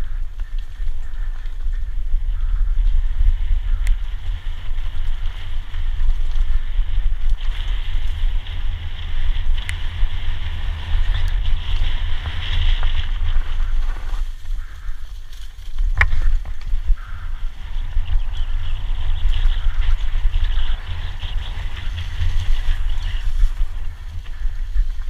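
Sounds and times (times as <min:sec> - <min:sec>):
bike rattling: 0:00.0 - 0:25.0
wind buffeting microphone: 0:00.0 - 0:25.0.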